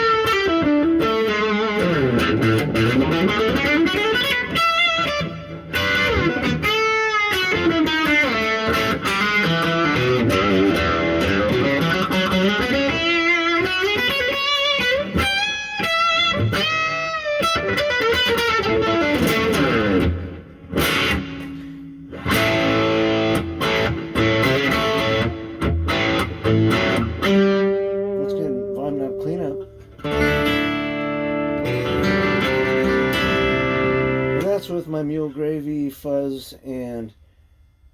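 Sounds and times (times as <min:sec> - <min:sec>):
electric guitar: 0:00.0 - 0:34.7.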